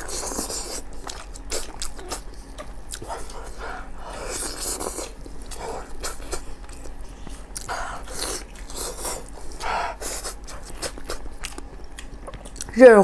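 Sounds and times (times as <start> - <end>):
woman chewing wetly: 0.0 - 12.8.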